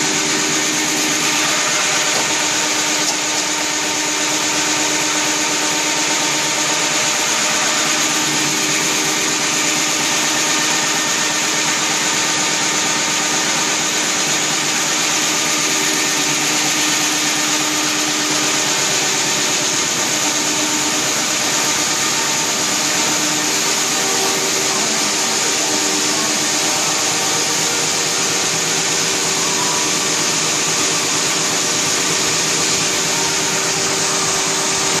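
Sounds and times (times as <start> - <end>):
constant high whine: 0.0 - 35.0
printing press mechanical din: 0.0 - 35.0.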